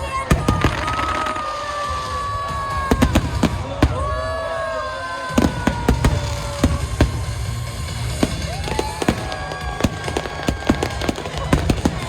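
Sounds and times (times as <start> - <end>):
fireworks bangs: 0.0 - 12.0
music playing: 0.0 - 12.0.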